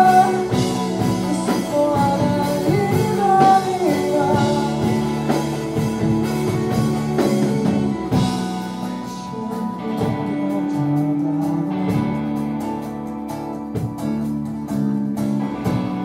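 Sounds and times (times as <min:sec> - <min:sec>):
drum kit: 0:00.0 - 0:16.0
electric bass: 0:00.0 - 0:16.0
electric guitar: 0:00.0 - 0:16.0.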